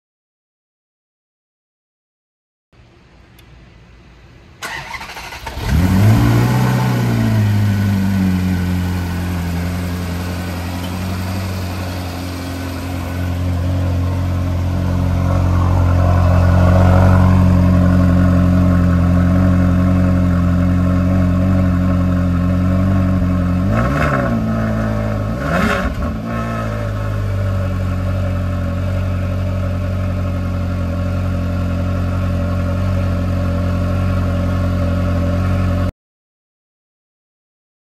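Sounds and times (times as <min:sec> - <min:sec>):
car engine idling and revving: 0:03.3 - 0:35.9.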